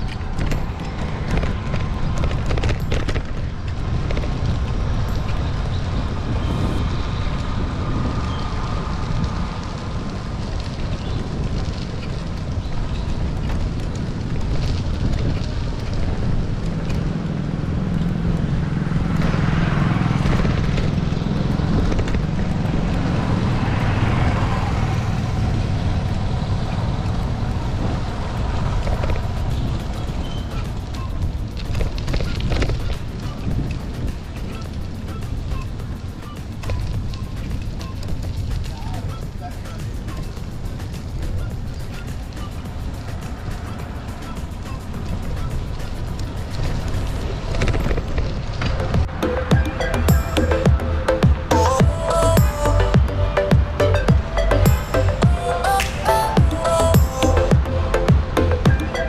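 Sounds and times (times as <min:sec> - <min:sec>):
vehicle passing: 0:00.0 - 0:12.6, 0:14.0 - 0:31.6, 0:39.9 - 0:59.0
wind and road noise rumbling: 0:00.0 - 0:59.0.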